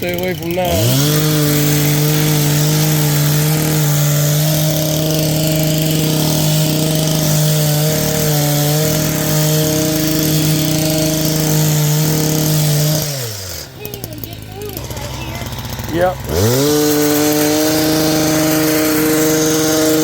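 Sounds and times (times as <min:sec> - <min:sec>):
hedge trimmer running: 0:00.0 - 0:20.0.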